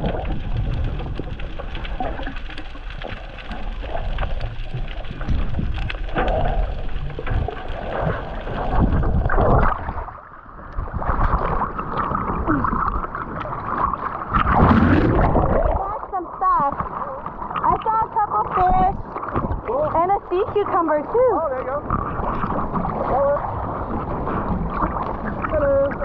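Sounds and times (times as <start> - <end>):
underwater water rushing and bubbling: 0.0 - 26.0
water sloshing over housing: 0.0 - 26.0
water splashing: 0.0 - 26.0.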